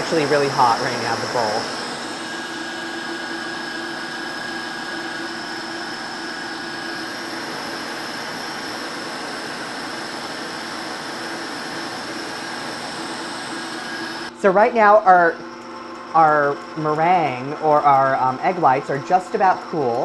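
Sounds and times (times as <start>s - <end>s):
stand mixer motor whine: 0.0s - 20.0s.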